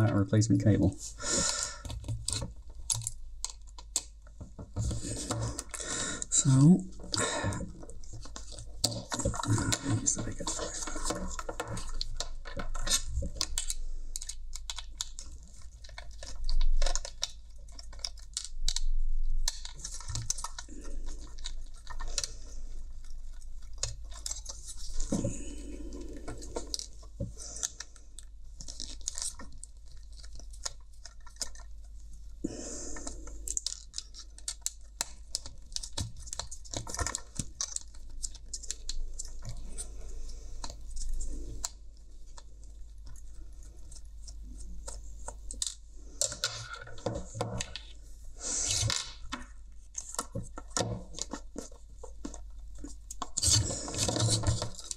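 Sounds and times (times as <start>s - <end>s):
plastic parts clicking and scraping: 0.0s - 54.9s.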